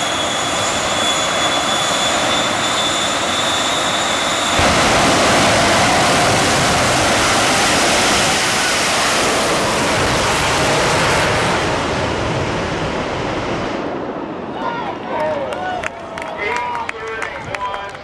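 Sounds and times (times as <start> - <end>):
jet engines roaring with afterburners: 0.0 - 18.0.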